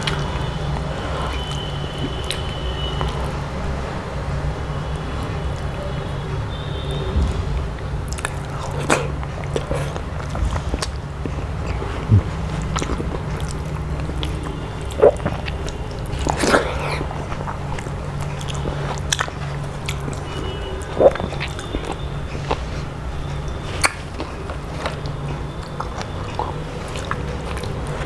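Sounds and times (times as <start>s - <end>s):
wet chewing and lip smacks: 0.0s - 3.5s, 8.1s - 28.0s
steady low hum: 0.0s - 28.0s.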